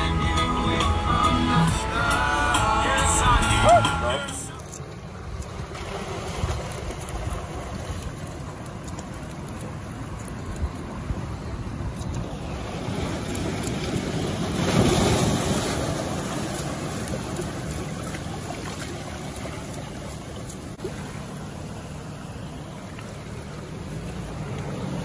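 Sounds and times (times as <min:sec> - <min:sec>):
ocean surf washing onto beach: 0:02.0 - 0:25.0.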